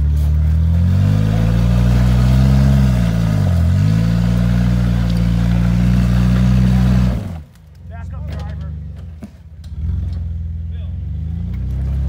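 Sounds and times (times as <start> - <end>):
engine working hard under load: 0.0 - 12.0.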